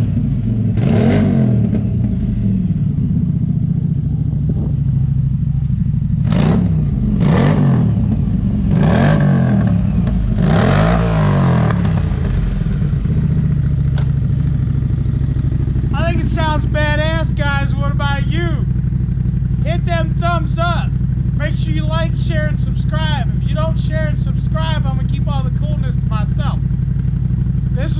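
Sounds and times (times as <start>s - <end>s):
engine idling and revving: 0.0s - 27.9s.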